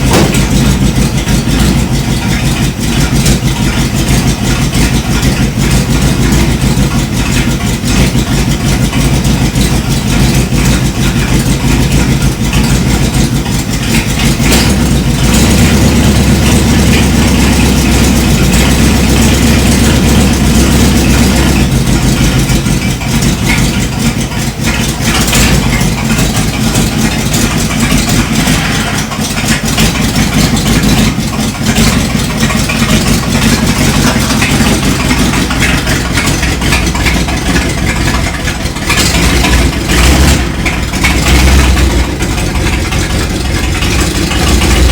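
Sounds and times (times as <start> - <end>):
truck engine rumbling: 0.0 - 44.9.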